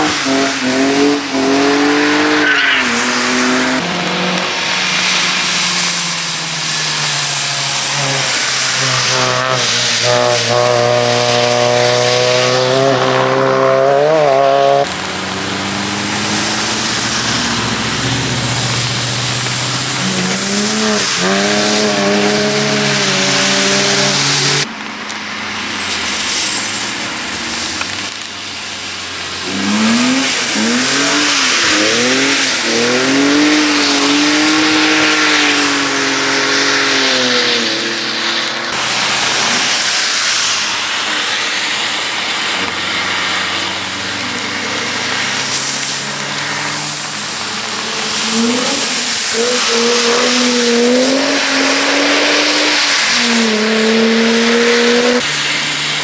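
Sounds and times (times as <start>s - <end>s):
racing car engines revving: 0.0s - 56.0s
tyres hissing on wet tarmac: 0.0s - 56.0s.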